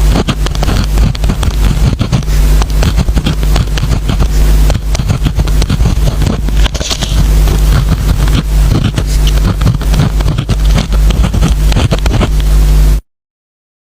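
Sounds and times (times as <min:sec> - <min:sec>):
pen scratching and tapping on paper: 0:00.0 - 0:12.5
steady low hum: 0:00.0 - 0:13.0.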